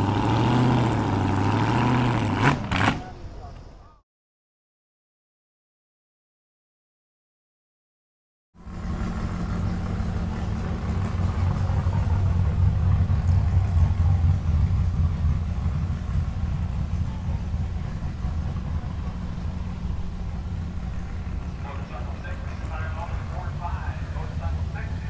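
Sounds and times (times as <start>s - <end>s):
car engine idling: 0.0s - 4.0s, 8.6s - 25.0s.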